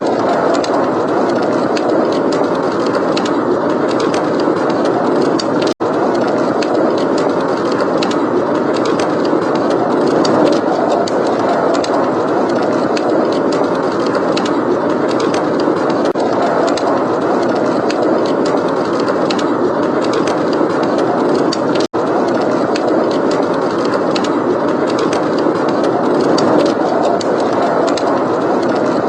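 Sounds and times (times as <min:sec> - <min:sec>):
blizzard wind blowing: 0:00.0 - 0:29.0
wood fire crackling: 0:00.0 - 0:29.0.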